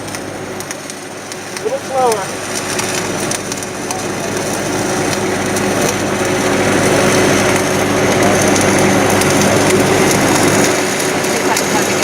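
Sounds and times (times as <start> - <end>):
steady low hum: 0.0 - 12.0
welding arc crackling and sizzling: 0.0 - 12.0.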